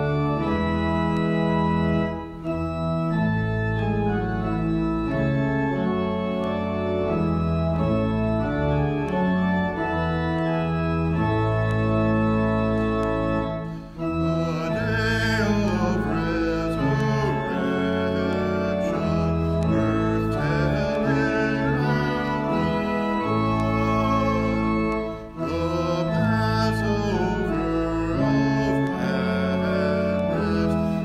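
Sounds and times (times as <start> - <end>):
organ chords: 0.0 - 31.0
wavering high organ notes: 0.0 - 31.0.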